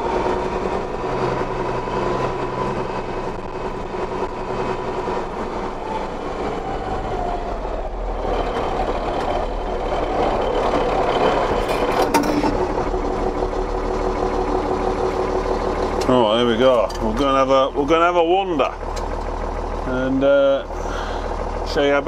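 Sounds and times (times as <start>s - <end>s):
tractor diesel engine from cab: 0.0s - 22.0s.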